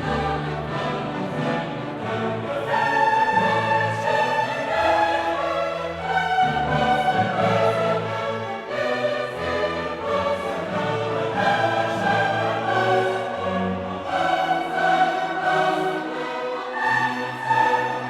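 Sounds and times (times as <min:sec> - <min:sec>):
choir singing held notes: 0:00.0 - 0:18.0
orchestra playing: 0:00.0 - 0:18.0.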